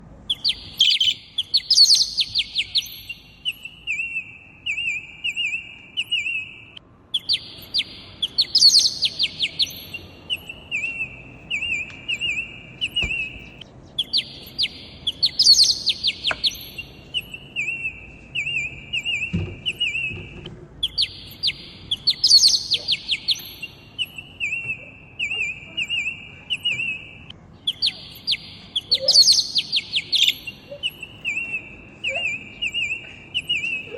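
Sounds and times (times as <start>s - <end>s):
bird song with trills and chirps: 0.2s - 33.9s.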